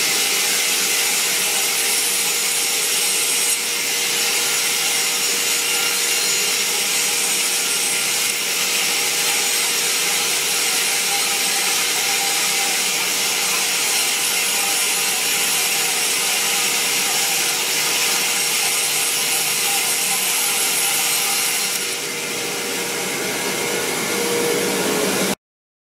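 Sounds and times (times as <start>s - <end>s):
band saw cutting wood: 0.0s - 25.4s.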